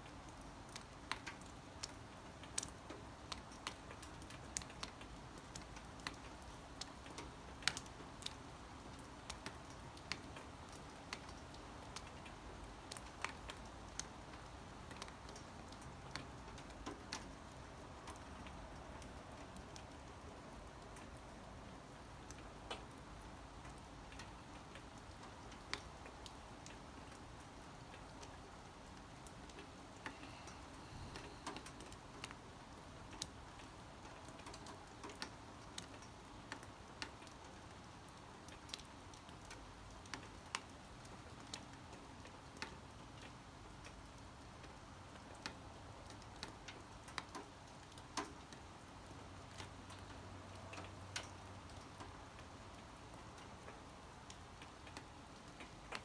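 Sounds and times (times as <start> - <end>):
light rain hiss: 0.0 - 56.0
raindrops dripping and ticking: 0.0 - 56.0.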